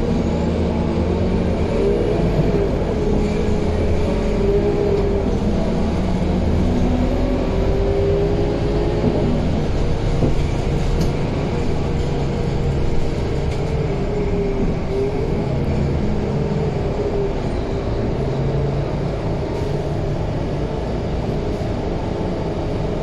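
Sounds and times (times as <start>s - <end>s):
bus diesel engine rumble and whine: 0.0s - 23.0s.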